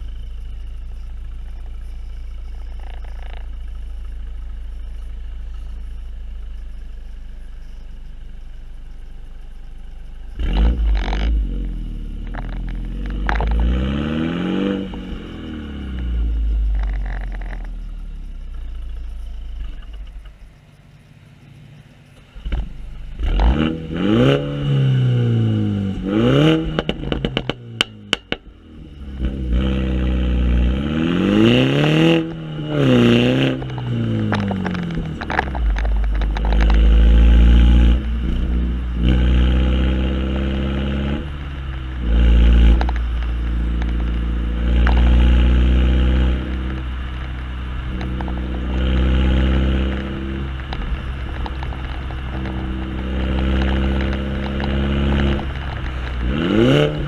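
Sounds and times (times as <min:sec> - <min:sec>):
exhaust cracks: 0:00.0 - 0:57.0
exhaust droning while driving: 0:00.0 - 0:57.0
car engine revving: 0:08.6 - 0:57.0.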